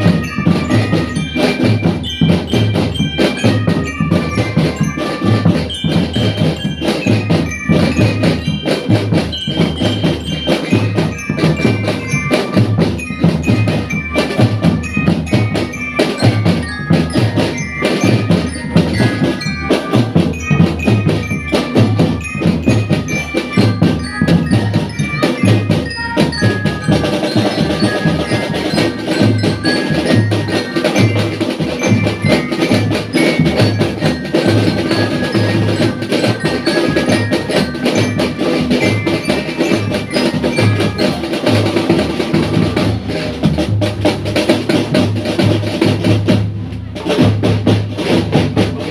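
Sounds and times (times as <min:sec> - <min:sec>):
bass and snare drums: 0:00.0 - 0:48.9
marching glockenspiel melody: 0:00.0 - 0:48.9.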